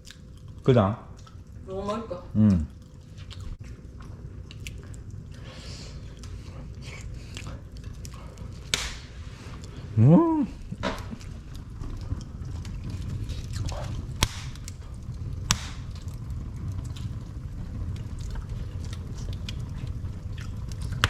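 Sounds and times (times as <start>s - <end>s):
fire crackling: 0.0s - 21.0s
fire rumbling in fireplace: 0.0s - 21.0s
wood fire popping: 0.0s - 21.0s.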